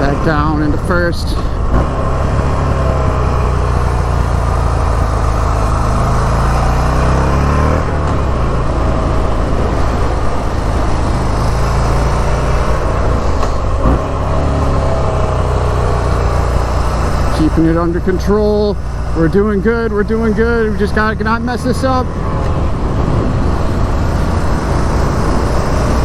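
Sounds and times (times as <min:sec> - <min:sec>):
motorcycle engine pulling under throttle: 0:00.0 - 0:26.0.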